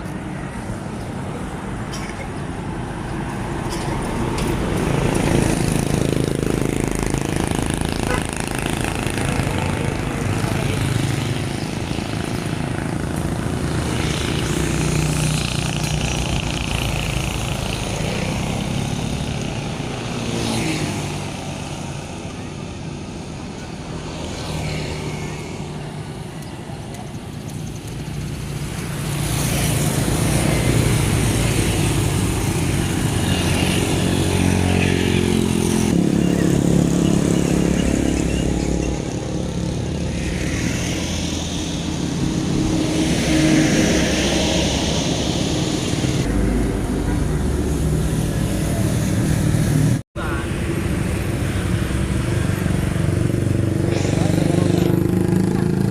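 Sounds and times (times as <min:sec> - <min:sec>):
vehicle engines passing: 0:00.0 - 0:55.9.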